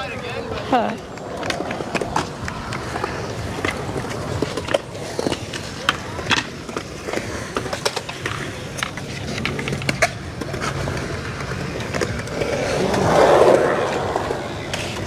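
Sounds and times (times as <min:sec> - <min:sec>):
skateboard clacks: 0:00.0 - 0:15.0
skateboards rolling on concrete: 0:00.0 - 0:15.0.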